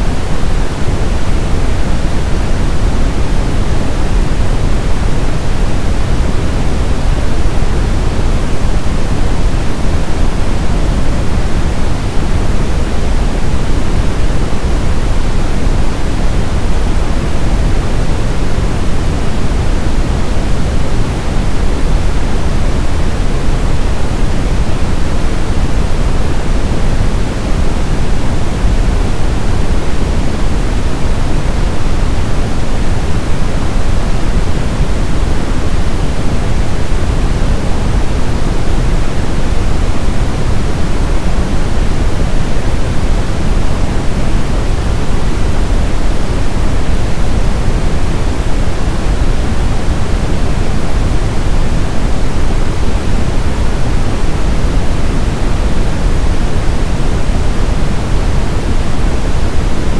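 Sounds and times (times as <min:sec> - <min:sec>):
brown noise deep hiss: 0:00.0 - 0:59.9.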